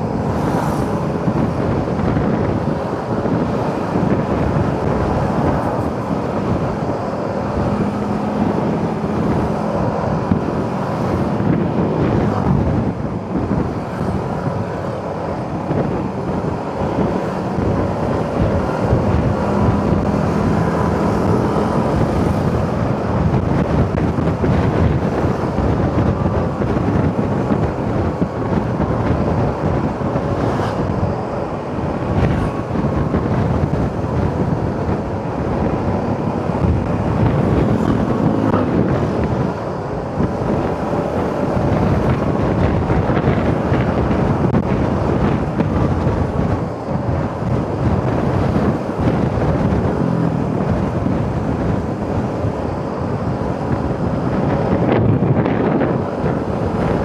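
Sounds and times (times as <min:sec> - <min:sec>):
road noise: 0:00.0 - 0:57.0
wind buffeting microphone: 0:00.0 - 0:57.0.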